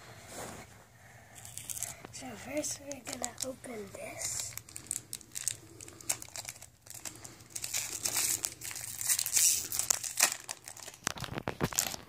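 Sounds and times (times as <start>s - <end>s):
foil wrapper crinkling: 1.4s - 12.0s.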